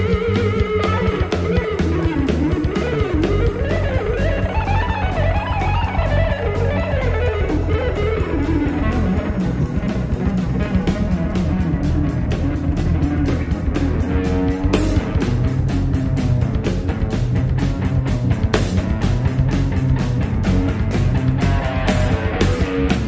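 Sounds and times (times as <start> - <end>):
bass guitar: 0.0 - 23.0
drum kit beat: 0.0 - 23.0
guitar lead melody: 0.0 - 23.0.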